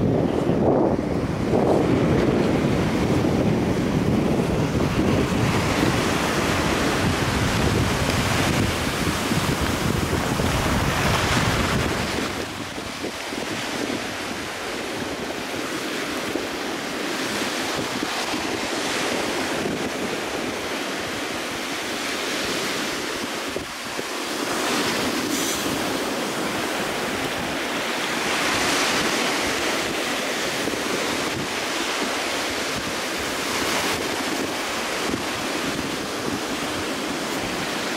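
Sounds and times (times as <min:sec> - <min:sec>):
ocean surf breaking: 0:00.0 - 0:37.9
wind rumbling on microphone: 0:00.0 - 0:37.9.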